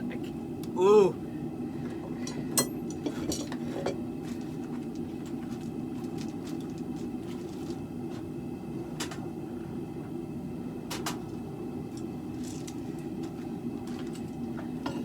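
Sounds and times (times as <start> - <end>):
propane forge burner roaring: 0.0 - 15.0.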